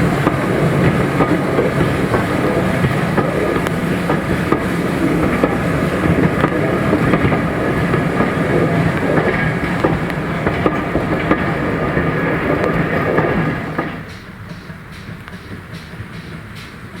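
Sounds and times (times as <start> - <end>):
train running: 0.0 - 17.0
train wheels clicking: 0.0 - 17.0.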